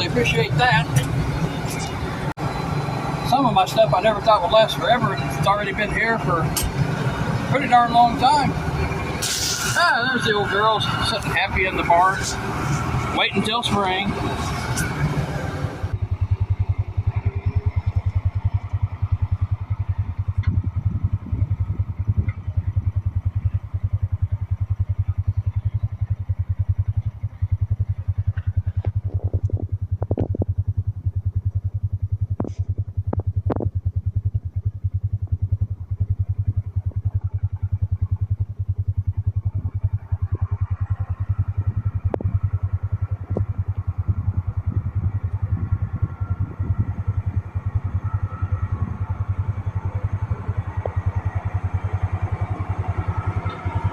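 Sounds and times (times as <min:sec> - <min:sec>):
tractor engine throbbing: 0:00.0 - 0:53.9.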